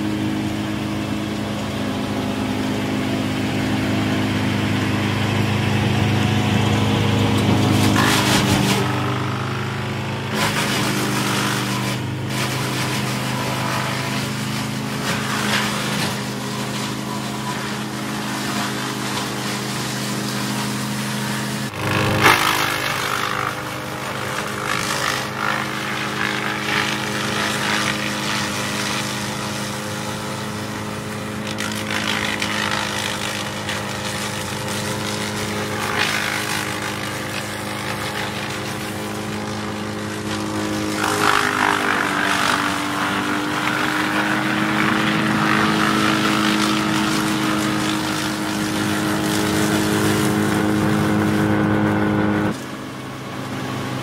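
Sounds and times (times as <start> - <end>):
branch chipper running: 0.0 - 54.0
crackling and grinding of chipping: 4.8 - 52.6.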